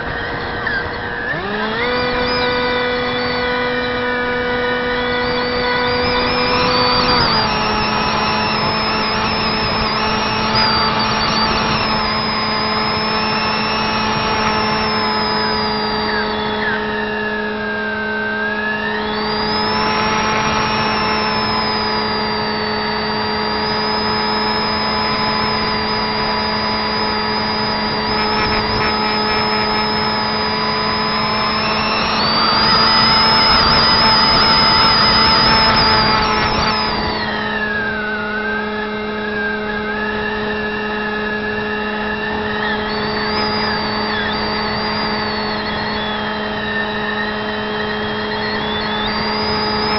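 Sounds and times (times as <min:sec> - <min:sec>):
electric motor and propeller whining: 0:00.0 - 0:49.9
steady hum: 0:00.0 - 0:49.9.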